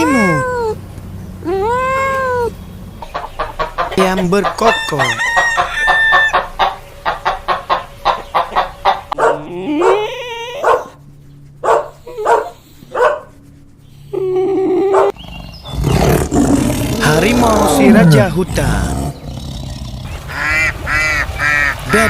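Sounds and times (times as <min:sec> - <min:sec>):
animal calls: 0:00.0 - 0:22.0.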